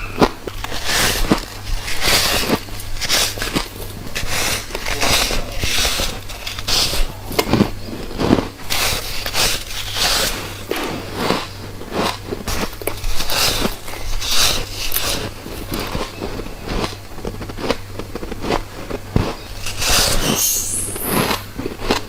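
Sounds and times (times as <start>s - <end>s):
crunchy bites into frost: 0.0s - 22.0s.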